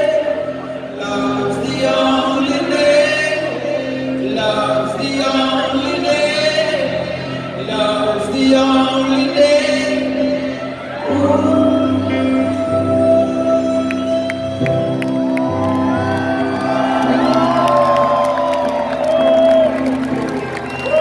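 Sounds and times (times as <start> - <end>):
person singing: 0.0 - 20.1
rock band playing slow song: 0.0 - 21.0.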